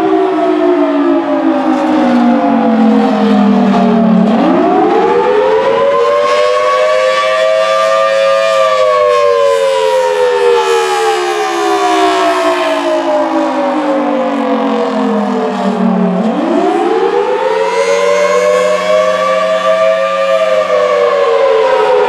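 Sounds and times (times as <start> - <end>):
rotating siren wailing: 0.0 - 22.0.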